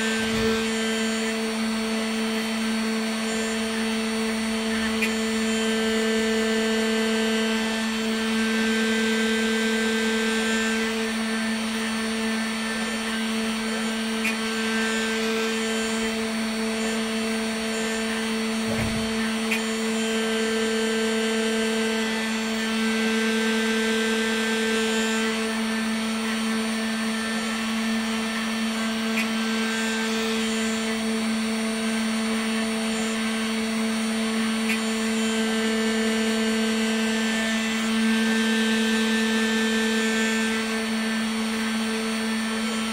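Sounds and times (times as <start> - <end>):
router spindle motor humming: 0.0 - 42.9.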